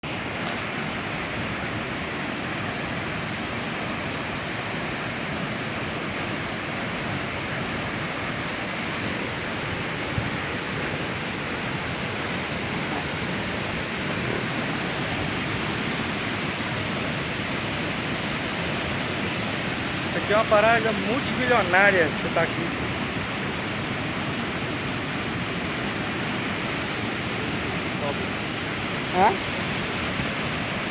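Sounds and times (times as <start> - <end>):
rushing water roar: 0.0 - 30.9.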